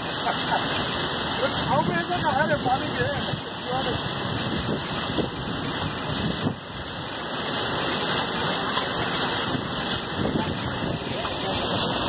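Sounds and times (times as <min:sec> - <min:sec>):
water gushing from burst pipe: 0:00.0 - 0:12.0.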